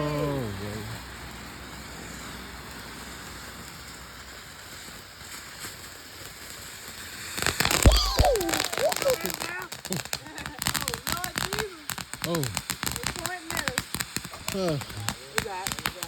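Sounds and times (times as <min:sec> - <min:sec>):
firework crackling: 0:00.0 - 0:16.0
firework hissing: 0:00.0 - 0:16.0.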